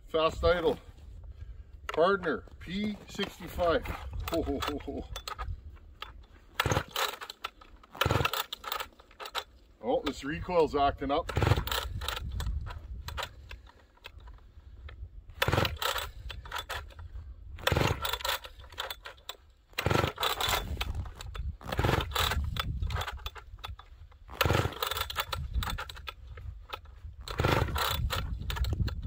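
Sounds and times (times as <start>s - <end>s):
chainsaw engine turning over: 1.9s - 29.0s
chainsaw pull-start rope whirring: 1.9s - 29.0s.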